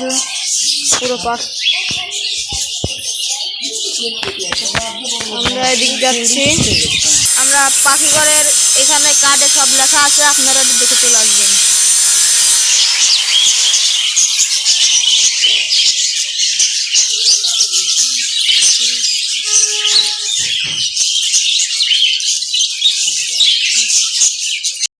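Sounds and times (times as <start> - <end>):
caged birds chirping: 0.0 - 24.9.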